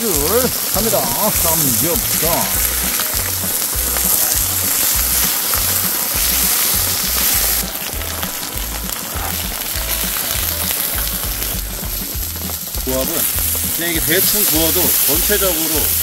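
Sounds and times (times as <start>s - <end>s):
background music with bass beat: 0.0s - 16.0s
pork sizzling on griddle: 0.0s - 16.0s.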